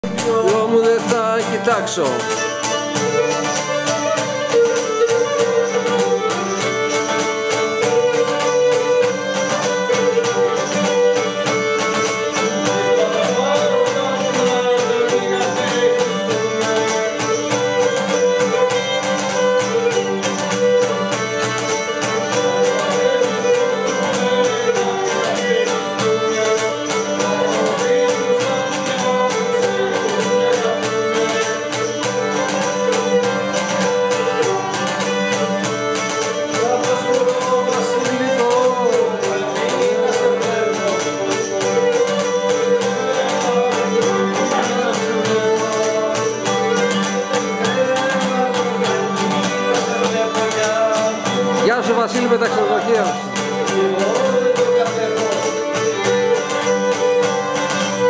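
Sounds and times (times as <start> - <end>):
bowed lyra melody: 0.0 - 58.0
lute strumming rhythm: 0.0 - 58.0.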